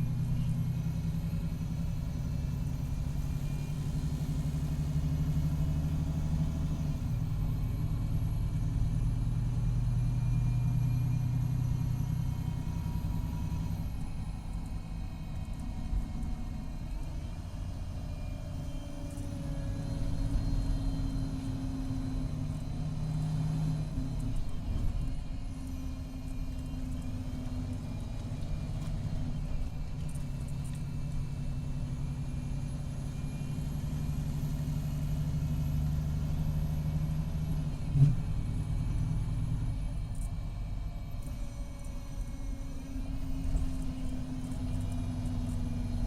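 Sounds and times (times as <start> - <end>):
diesel engine low drone: 0.0 - 46.0.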